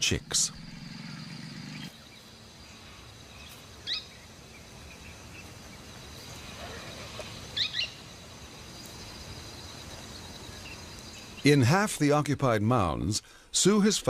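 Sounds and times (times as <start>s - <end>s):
bird calls: 0.0s - 11.5s
high insect drone: 0.0s - 11.5s.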